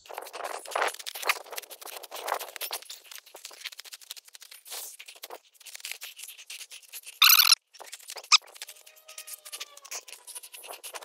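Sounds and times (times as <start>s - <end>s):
rustling and light crackling: 0.0s - 11.0s.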